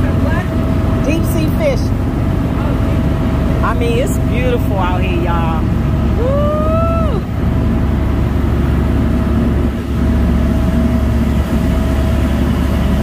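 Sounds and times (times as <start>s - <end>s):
boat engine running: 0.0s - 13.0s
rush of wind and water: 0.0s - 13.0s.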